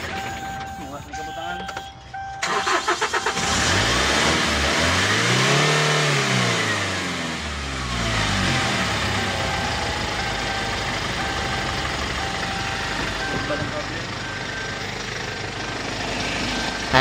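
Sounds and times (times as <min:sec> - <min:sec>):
diesel engine revving and idling: 0:00.0 - 0:17.0.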